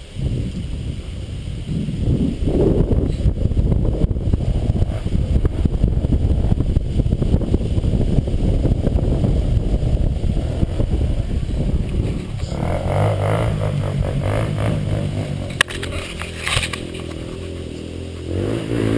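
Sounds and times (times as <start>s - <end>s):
dirt bike engine drone: 0.0s - 18.9s
wind buffeting microphone: 0.0s - 18.9s.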